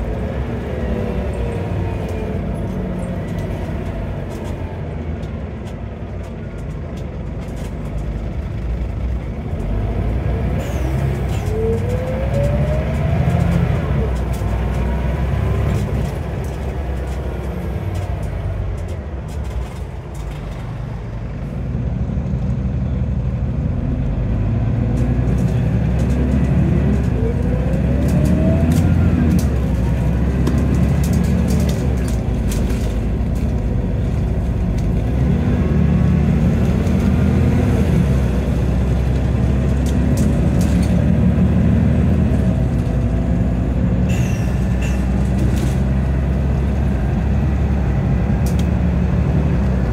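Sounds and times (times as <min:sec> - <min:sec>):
bus diesel engine: 0:00.0 - 0:49.9.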